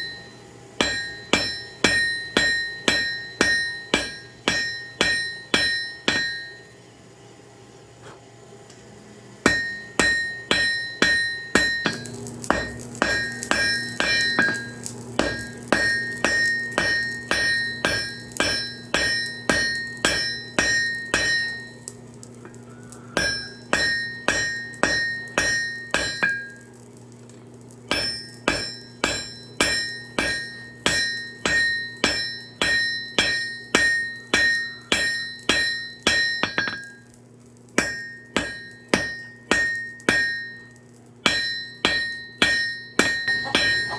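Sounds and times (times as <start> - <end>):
hammer ringing on anvil: 0.0 - 6.7, 9.4 - 21.8, 23.2 - 26.6, 27.9 - 37.0, 37.8 - 43.9
steady low hum: 0.0 - 43.9.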